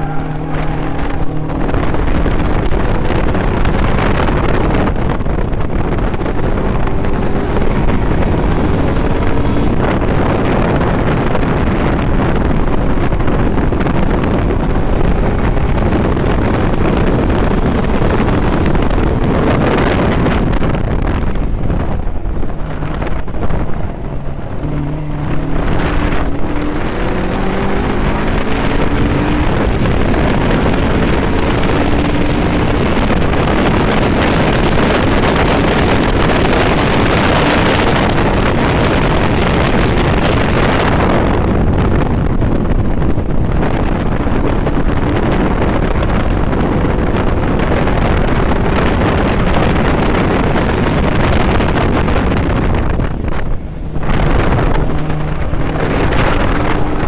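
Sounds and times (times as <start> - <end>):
car engine revving: 0.0 - 57.0
wind buffeting microphone: 0.0 - 57.0.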